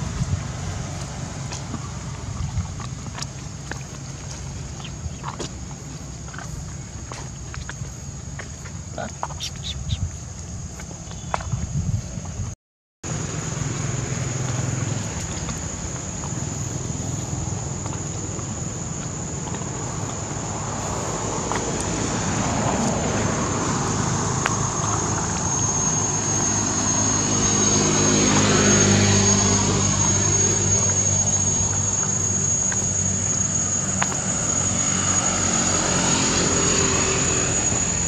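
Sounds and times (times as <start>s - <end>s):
engine running: 0.0s - 11.6s, 13.0s - 38.0s
high-pitched insect drone: 0.0s - 12.4s, 13.1s - 38.0s.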